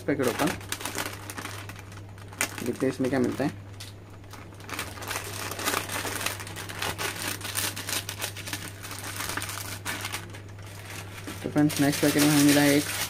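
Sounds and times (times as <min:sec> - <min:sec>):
foil packet crinkling: 0:00.0 - 0:13.0.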